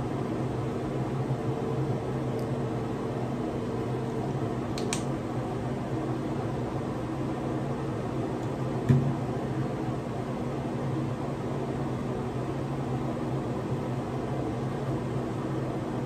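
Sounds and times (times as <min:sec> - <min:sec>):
ventilation fan humming: 0:00.0 - 0:16.0.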